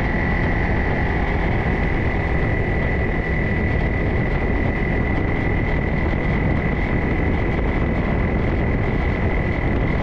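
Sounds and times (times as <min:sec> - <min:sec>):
high-pitched whine: 0:00.0 - 0:10.0
vehicle engine running: 0:00.0 - 0:10.0.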